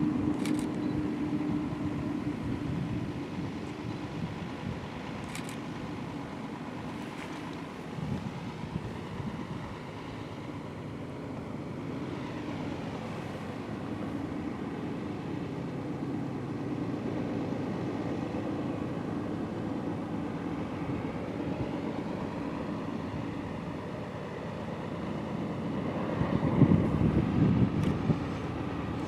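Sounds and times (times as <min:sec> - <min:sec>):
diesel locomotives droning: 0:00.0 - 0:29.0.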